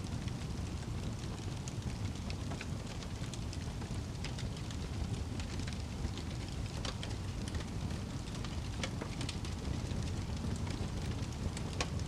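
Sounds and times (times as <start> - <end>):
fire rumbling: 0.0 - 12.0
fire crackling: 0.1 - 12.0.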